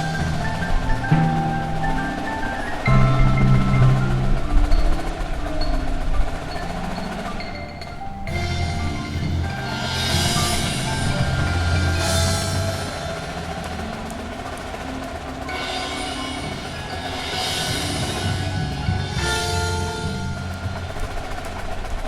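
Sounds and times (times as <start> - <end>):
xylophone notes: 0.0 - 21.7
snare drum rolls: 0.0 - 22.0.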